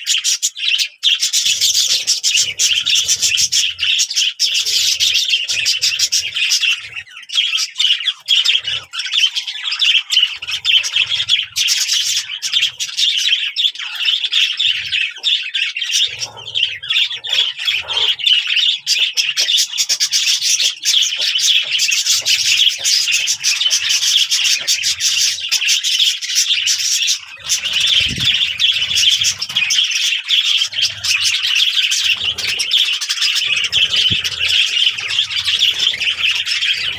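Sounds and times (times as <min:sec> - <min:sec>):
bird squawk: 0:00.0 - 0:36.9
small birds chirping: 0:00.0 - 0:36.9.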